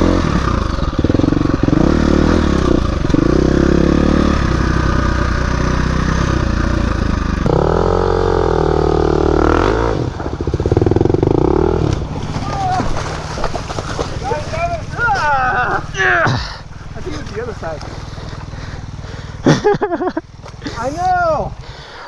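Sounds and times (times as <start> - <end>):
bike clattering: 0.0 - 7.6, 10.0 - 21.6
dirt bike engine revving: 0.0 - 22.0.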